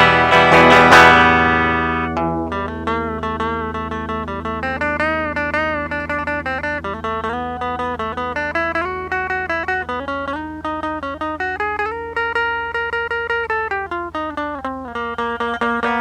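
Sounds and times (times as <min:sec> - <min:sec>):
plucked guitar notes: 0:00.0 - 0:16.0.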